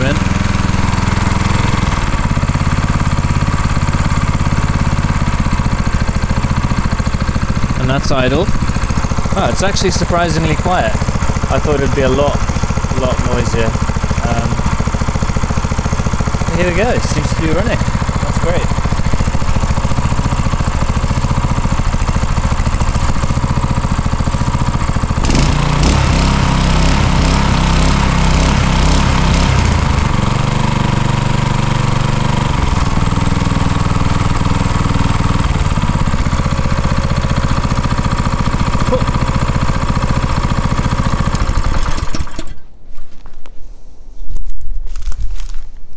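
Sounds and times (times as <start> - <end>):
petrol engine running: 0.0 - 42.7.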